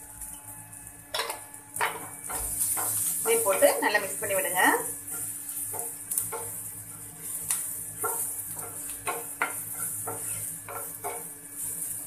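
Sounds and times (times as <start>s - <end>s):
wooden spatula scraping frying pan: 1.8s - 12.0s.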